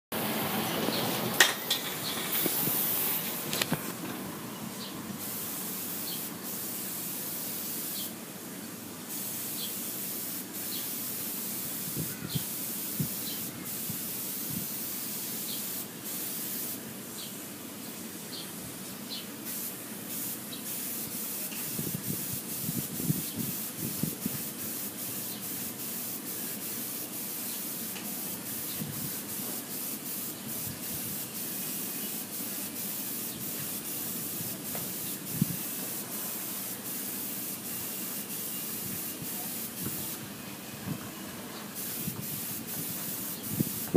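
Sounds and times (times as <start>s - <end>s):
airbrush spraying hiss: 0.4s - 4.0s, 4.8s - 43.9s.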